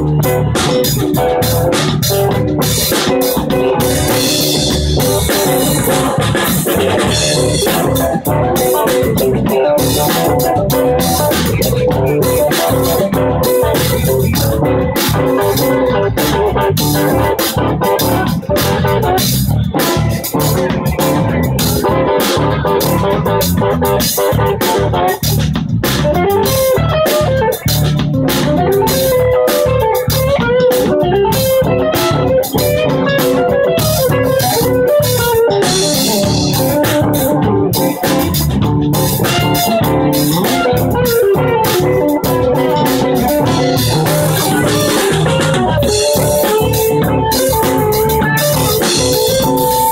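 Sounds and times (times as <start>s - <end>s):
electric guitar: 0.0s - 49.9s
live band jamming: 0.0s - 49.9s.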